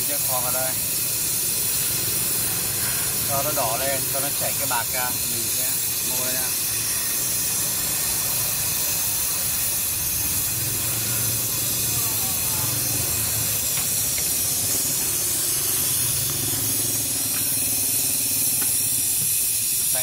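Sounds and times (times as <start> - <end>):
torch flame hissing: 0.0 - 20.0.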